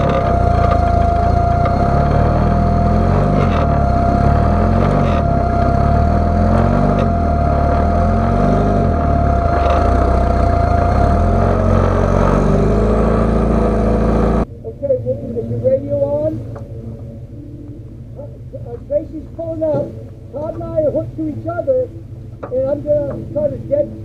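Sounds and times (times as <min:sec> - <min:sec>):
engine revving: 0:00.0 - 0:24.0
steady high whine: 0:00.0 - 0:24.0.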